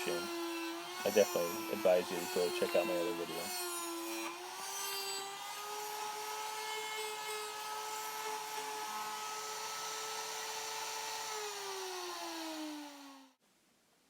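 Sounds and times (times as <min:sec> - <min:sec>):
router whining: 0:00.0 - 0:13.4.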